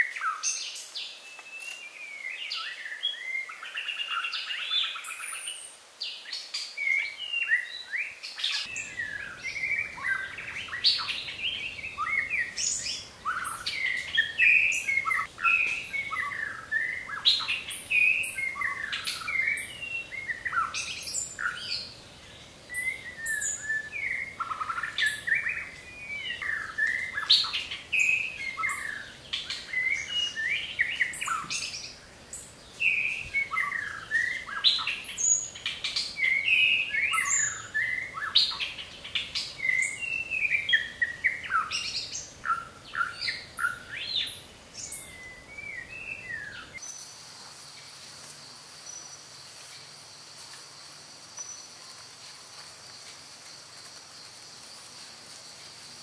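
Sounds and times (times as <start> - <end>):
birds chirping: 0.0 - 56.0
faint high hiss: 0.0 - 56.0.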